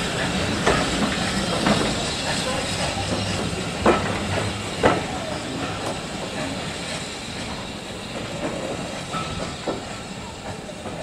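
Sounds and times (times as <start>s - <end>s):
train rumbling on track: 0.0s - 11.0s
wheels clacking over rail joints: 0.0s - 11.0s.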